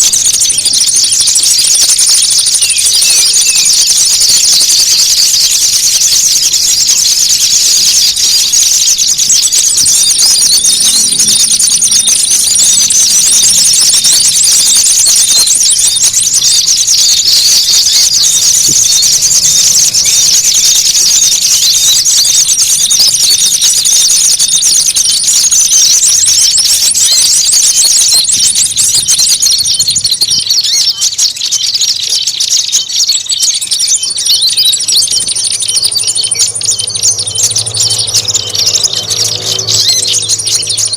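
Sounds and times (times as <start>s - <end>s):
songbirds chattering and scolding: 0.0s - 40.9s.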